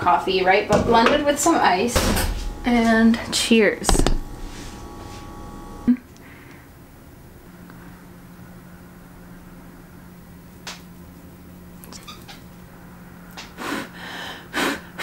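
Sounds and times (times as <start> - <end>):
low steady hum: 0.0 - 13.4.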